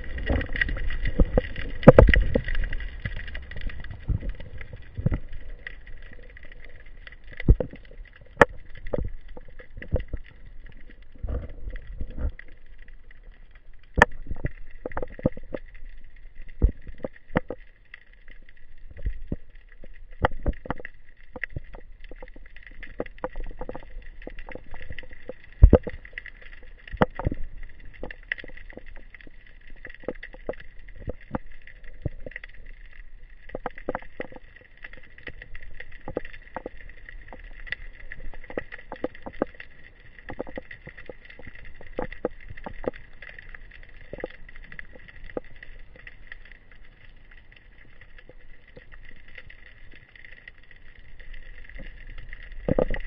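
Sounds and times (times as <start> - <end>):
underwater clicks and knocks: 0.0 - 47.1, 47.8 - 53.0.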